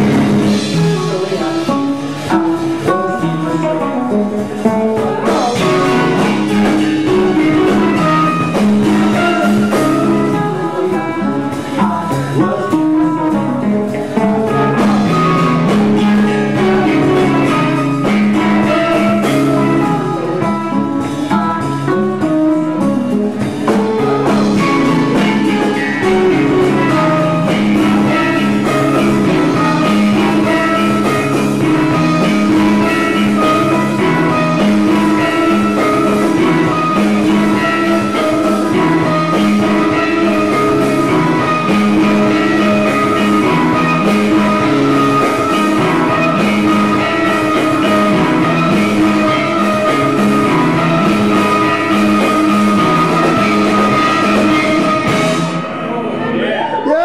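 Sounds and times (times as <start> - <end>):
drum kit: 0.0 - 57.0
electric guitars picking melodies: 0.0 - 57.0.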